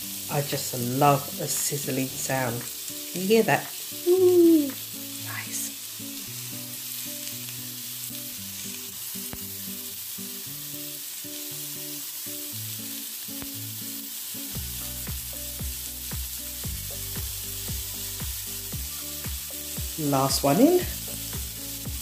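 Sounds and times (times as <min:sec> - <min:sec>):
meat sizzling in grill pan: 0:00.0 - 0:22.0.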